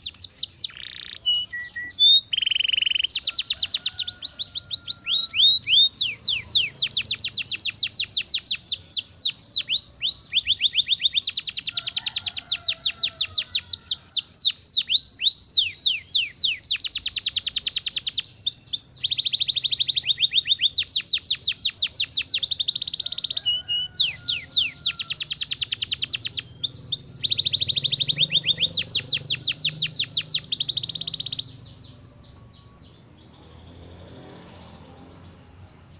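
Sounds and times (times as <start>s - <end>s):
canary singing trills: 0.0s - 35.9s.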